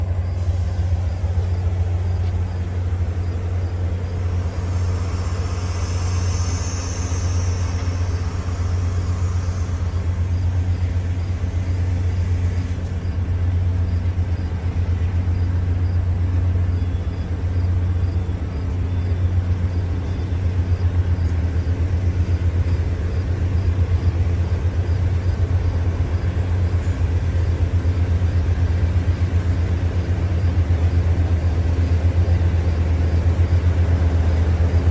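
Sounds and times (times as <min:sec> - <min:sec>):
diesel locomotive engine droning: 0:00.0 - 0:34.9.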